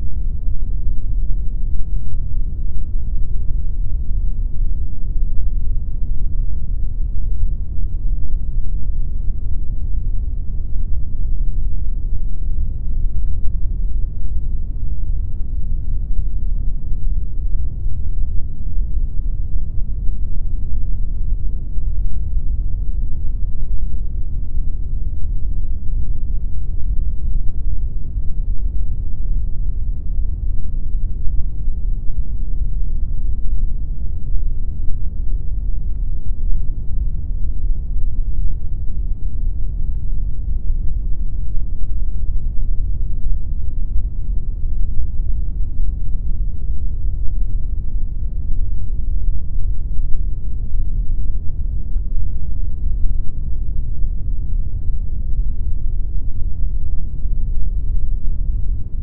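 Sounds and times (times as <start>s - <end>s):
deep pink noise hiss: 0.0s - 59.0s.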